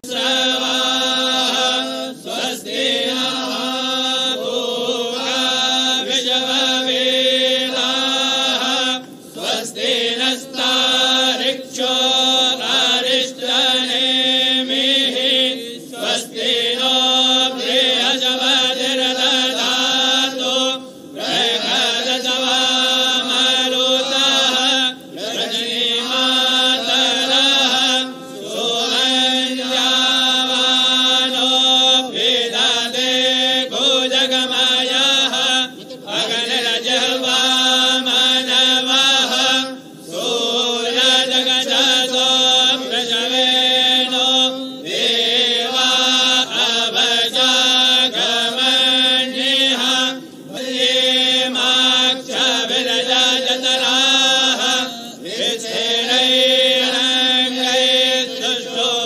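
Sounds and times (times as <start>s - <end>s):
group of voices chanting: 0.0s - 59.0s
steadily held drone tone: 0.0s - 59.0s.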